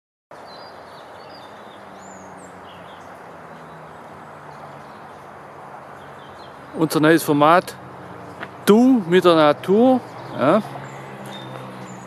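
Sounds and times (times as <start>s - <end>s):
birds chirping: 0.3s - 12.0s.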